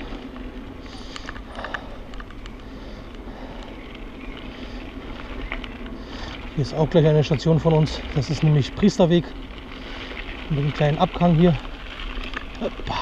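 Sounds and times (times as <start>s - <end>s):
bicycle tyres rolling on dirt: 0.0s - 13.0s
small clicks and rattles: 0.0s - 13.0s.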